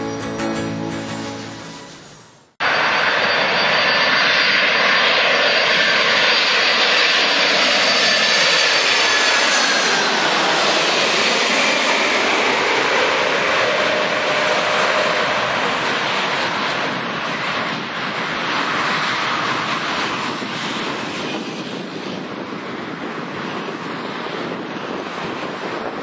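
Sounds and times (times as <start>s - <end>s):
jet airliner passing low: 0.0s - 26.0s.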